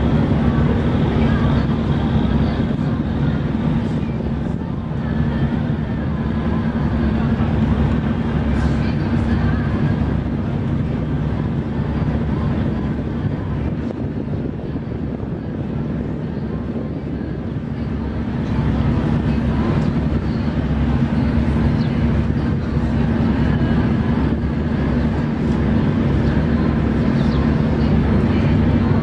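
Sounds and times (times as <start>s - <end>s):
street noise: 0.0s - 29.0s
vehicle engine running: 0.0s - 29.0s.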